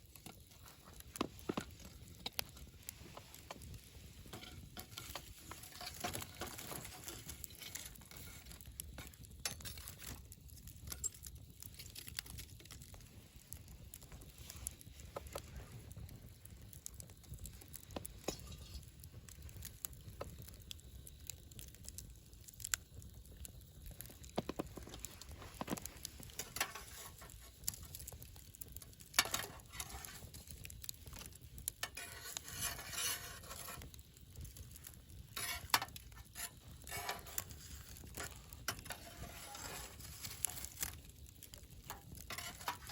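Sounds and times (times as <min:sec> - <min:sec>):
burning wood crackling: 0:00.0 - 0:42.9
campfire flame rumble: 0:00.0 - 0:42.9.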